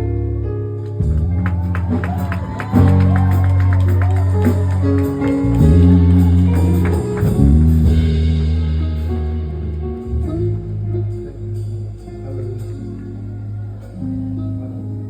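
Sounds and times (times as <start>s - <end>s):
low bass notes: 0.0s - 15.0s.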